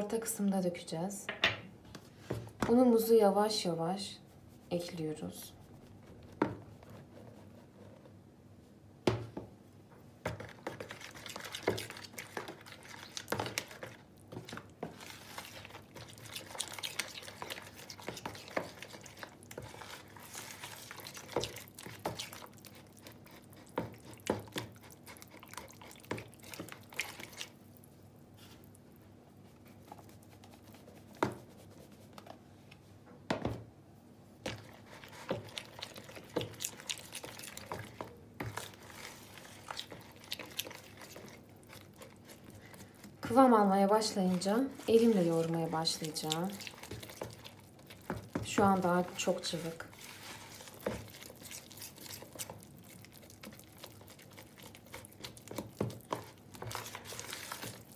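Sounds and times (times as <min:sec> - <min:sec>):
wet batter stirring: 0:01.8 - 0:32.4, 0:34.3 - 0:57.9.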